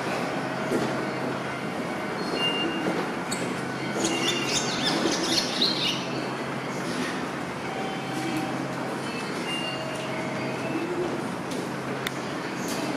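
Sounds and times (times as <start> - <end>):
train and station rumble: 0.0 - 12.9.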